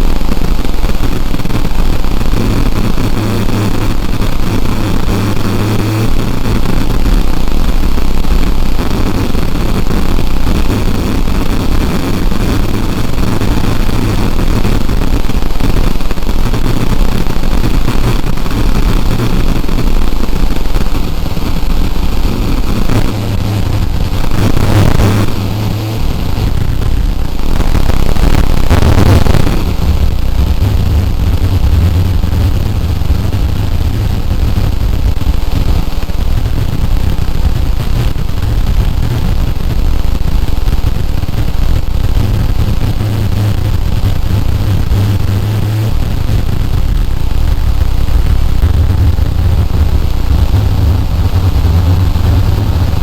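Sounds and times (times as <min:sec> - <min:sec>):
loud harsh noise: 0:00.0 - 0:53.0
strong low hum: 0:00.0 - 0:53.0.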